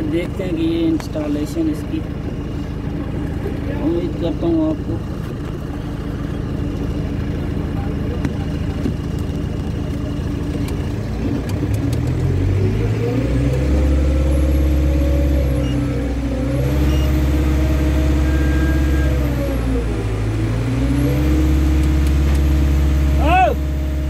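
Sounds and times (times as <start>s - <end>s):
diesel crane engine running: 0.0s - 24.0s.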